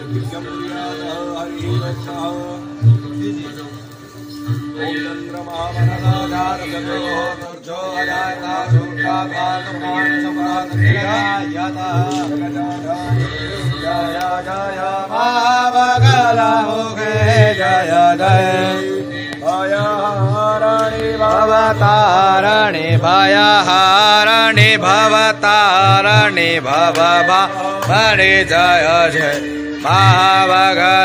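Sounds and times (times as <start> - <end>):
person singing chant: 0.0 - 31.0
steady drone: 0.0 - 31.0.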